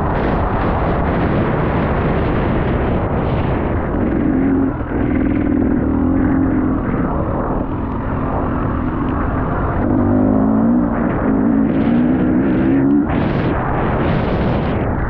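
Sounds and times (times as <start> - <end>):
heavy rushing noise: 0.0 - 15.0
dirt bike engine revving: 1.2 - 14.7.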